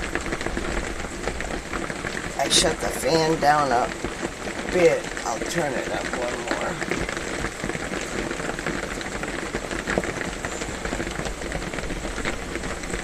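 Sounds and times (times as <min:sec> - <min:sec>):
rain on a metal roof: 0:00.0 - 0:13.0.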